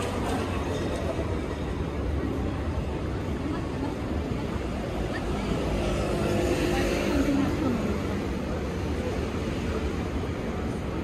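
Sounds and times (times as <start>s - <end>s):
faint voices of passers-by: 0.0s - 11.0s
traffic rumble: 0.0s - 11.0s.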